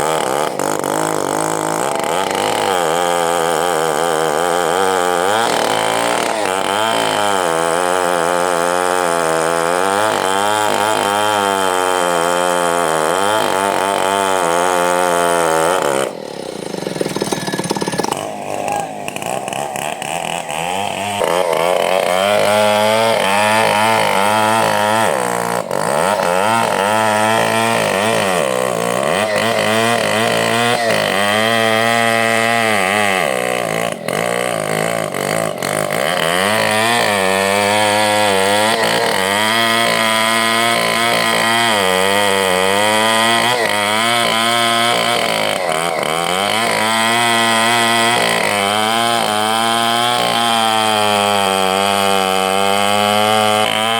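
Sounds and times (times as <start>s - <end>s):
chainsaw revving: 0.0s - 53.9s.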